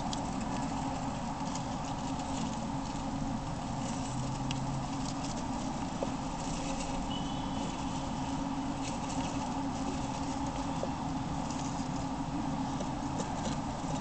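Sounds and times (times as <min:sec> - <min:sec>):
hamsters rustling and scratching: 0:00.0 - 0:14.0
steady background hum: 0:00.0 - 0:14.0.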